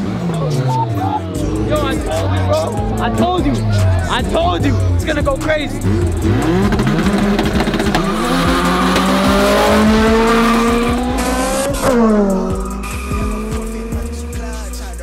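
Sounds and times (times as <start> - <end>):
car engines revving hard: 0.0 - 15.0.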